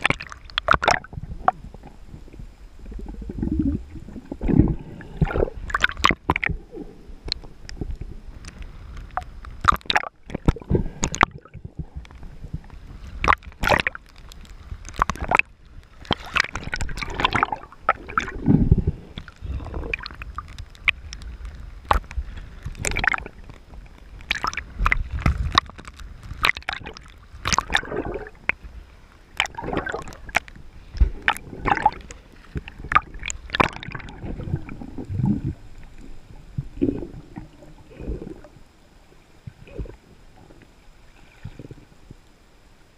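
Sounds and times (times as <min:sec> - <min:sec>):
water splashes: 0:00.0 - 0:42.2
water sloshing and gurgling: 0:00.0 - 0:42.9.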